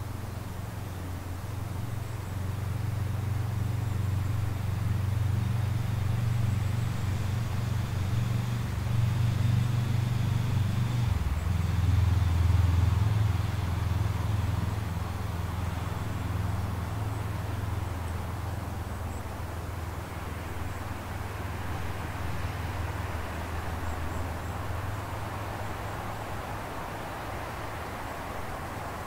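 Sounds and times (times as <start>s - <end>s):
passing vehicle engine rumble: 0.0s - 29.0s.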